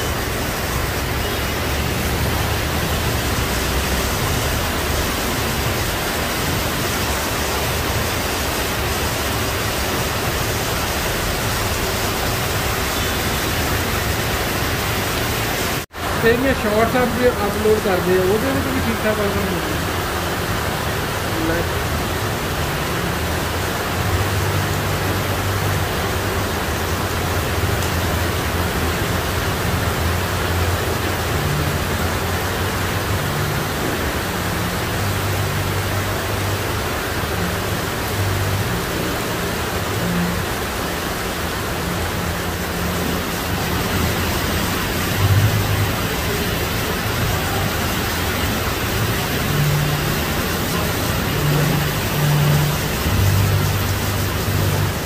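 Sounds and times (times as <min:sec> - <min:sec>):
heavy rain pouring: 0:00.0 - 0:55.0
traffic rumbling on wet street: 0:00.0 - 0:55.0.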